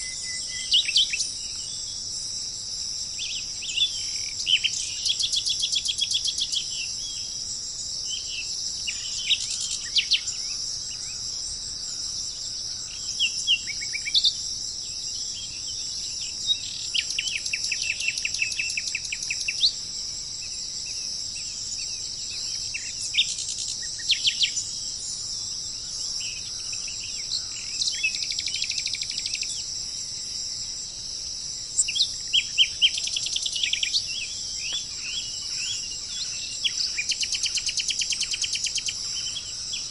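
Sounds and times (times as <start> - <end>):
high-pitched insect chorus: 0.0 - 39.9
songbirds trilling and chirping: 0.0 - 39.9.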